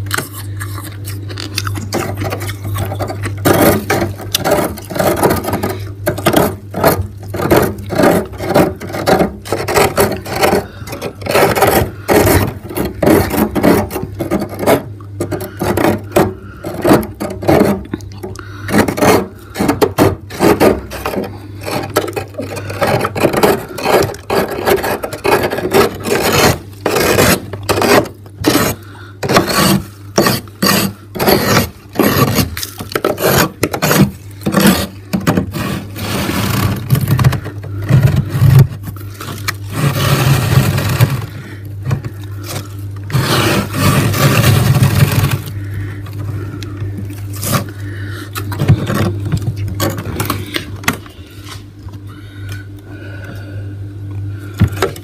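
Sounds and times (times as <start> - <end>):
metal spoon scraping frost: 0.0 - 37.2, 37.8 - 41.4, 42.4 - 45.8
steady low hum: 0.0 - 55.0.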